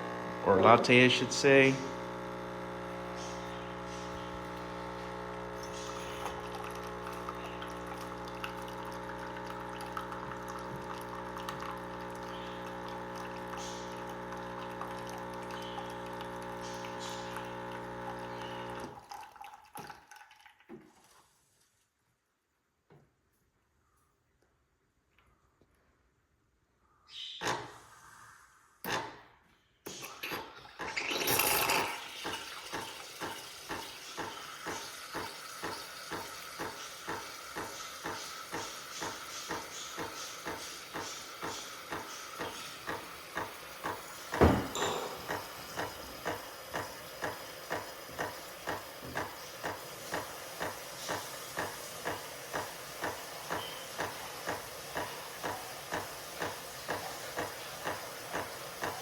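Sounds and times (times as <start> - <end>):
espresso machine pulsing hiss: 0.0 - 19.0, 30.8 - 59.0.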